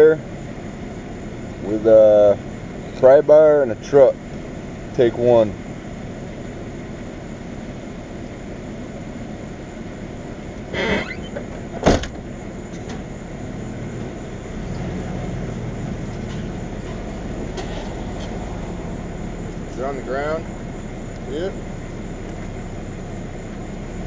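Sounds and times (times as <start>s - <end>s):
low hum: 0.2s - 24.0s.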